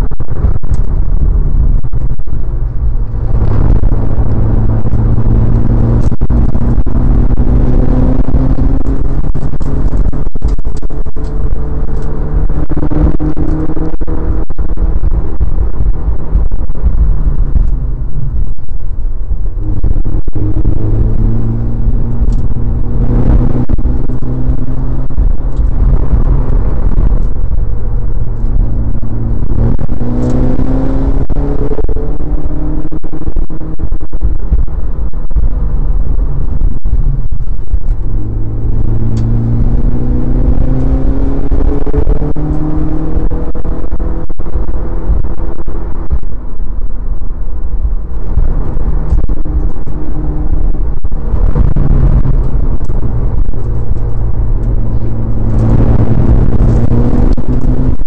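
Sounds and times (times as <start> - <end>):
car engine revving at speed: 0.0 - 58.0.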